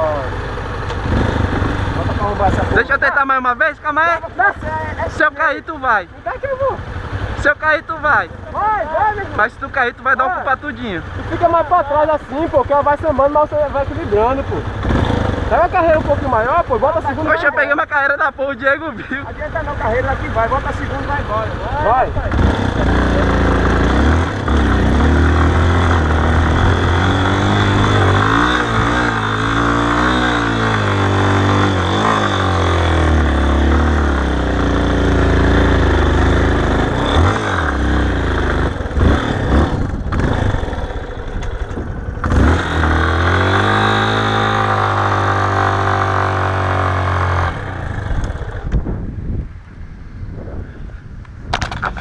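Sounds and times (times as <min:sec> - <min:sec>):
motorcycle engine revving: 0:00.0 - 0:17.9, 0:19.0 - 0:49.2.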